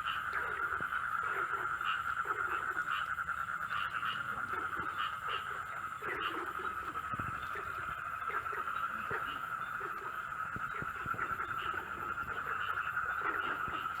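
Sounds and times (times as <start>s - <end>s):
chorus of night creatures: 0.0s - 14.0s.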